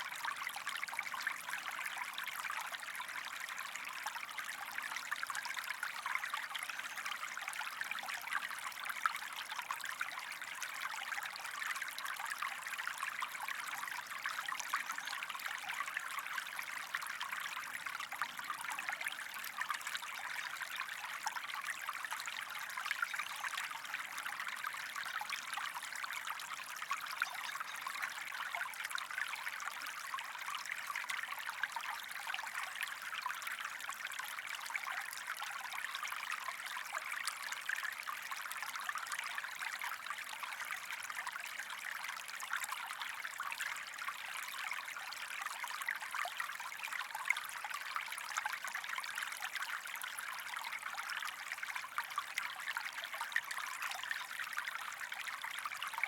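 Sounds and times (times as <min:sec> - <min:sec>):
stream water running over stones: 0:00.0 - 0:56.0.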